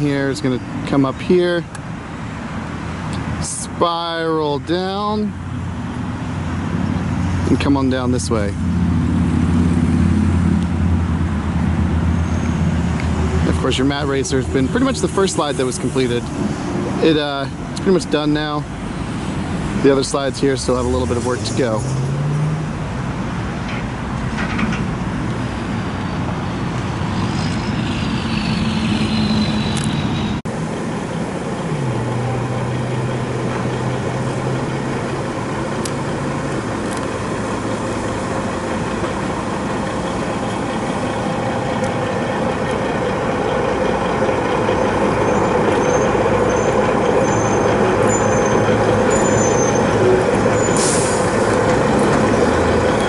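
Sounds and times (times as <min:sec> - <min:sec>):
heavy vehicle engine: 0:00.0 - 0:53.0
highway traffic rushing: 0:00.0 - 0:53.0.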